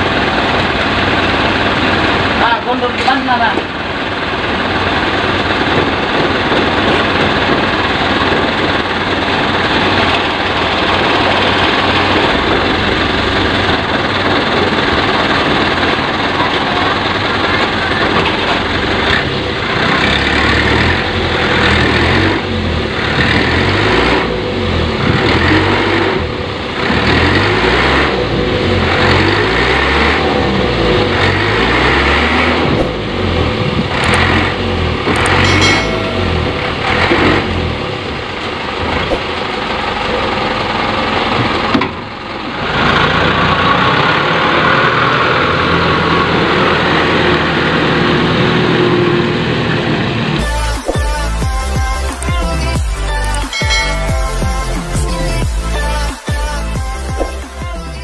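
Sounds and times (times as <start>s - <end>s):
truck engine running loudly: 0.0s - 58.0s.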